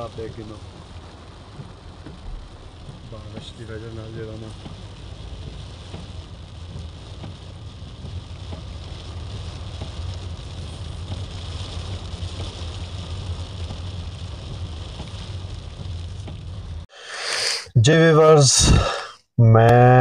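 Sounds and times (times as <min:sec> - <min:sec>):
engine and road rumble: 0:00.0 - 0:17.0
tyres hissing on wet road: 0:00.0 - 0:17.8, 0:18.5 - 0:19.2.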